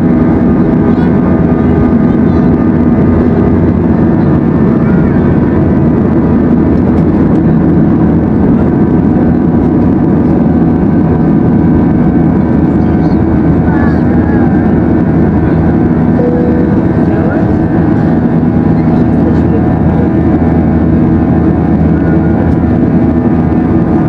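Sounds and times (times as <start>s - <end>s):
aircraft cabin engine drone: 0.0s - 24.0s.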